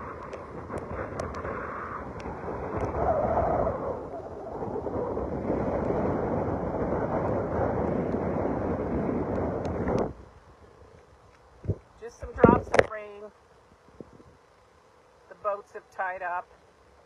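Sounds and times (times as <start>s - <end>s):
gusty wind buffeting microphone: 0.0s - 14.6s.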